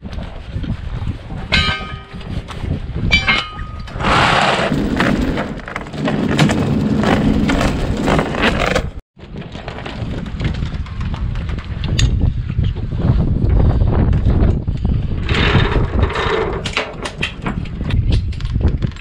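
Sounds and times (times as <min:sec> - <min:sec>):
wind on microphone: 0:00.0 - 0:05.7, 0:06.4 - 0:19.0.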